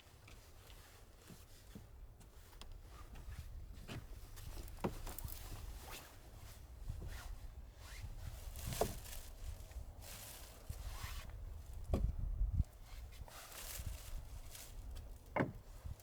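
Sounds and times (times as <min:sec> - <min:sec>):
rustling and light knocks: 0:00.0 - 0:16.0.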